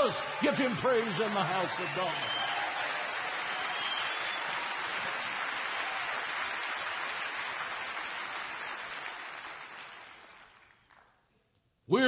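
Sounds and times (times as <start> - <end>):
crowd clapping: 0.0 - 11.3.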